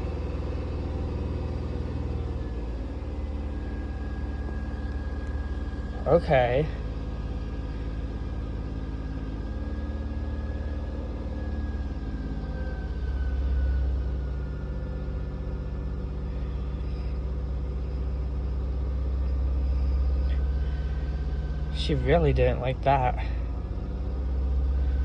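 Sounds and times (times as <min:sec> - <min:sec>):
car engine idling with whine: 0:00.0 - 0:25.0.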